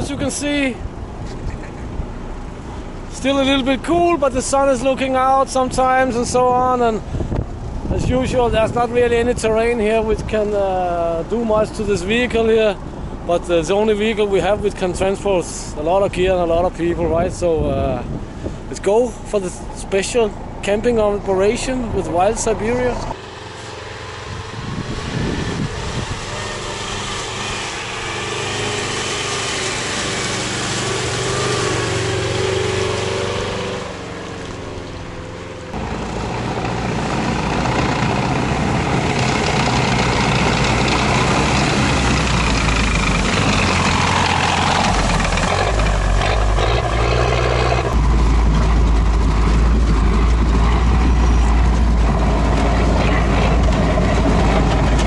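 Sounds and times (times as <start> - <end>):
tracked vehicle engine running: 0.0 - 55.0.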